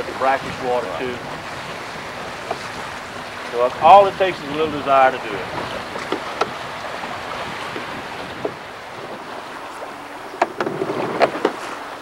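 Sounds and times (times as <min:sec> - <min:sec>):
choppy water splashing: 0:00.0 - 0:12.0
wind: 0:00.0 - 0:12.0.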